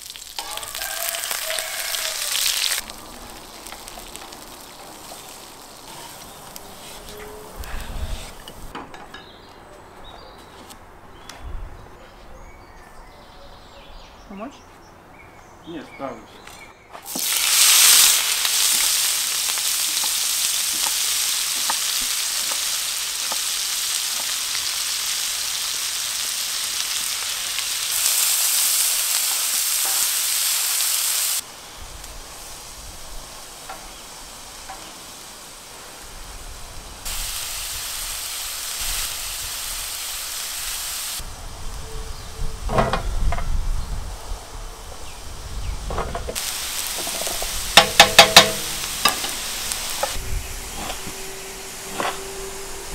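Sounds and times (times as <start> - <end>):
onion sizzling on a hot pan: 0.0 - 8.7, 17.0 - 43.8, 45.0 - 52.9.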